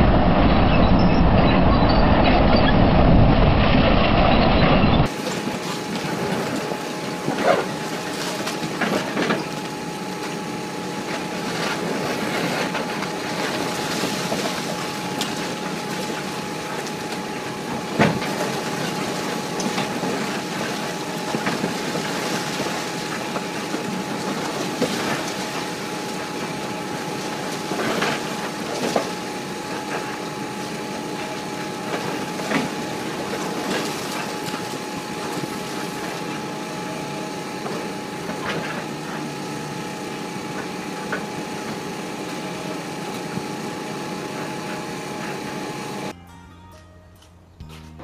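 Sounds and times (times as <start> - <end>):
excavator engine under load: 0.0 - 46.2
steady machine whine: 0.0 - 46.2.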